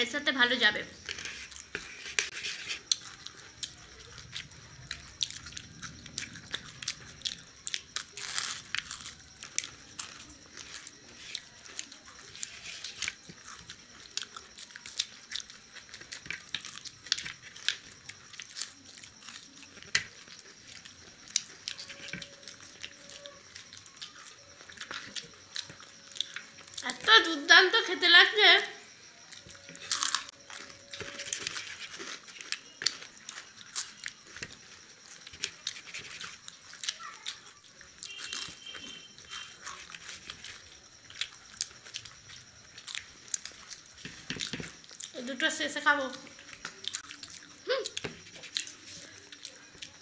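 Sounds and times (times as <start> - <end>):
people chewing food: 0.0 - 50.0.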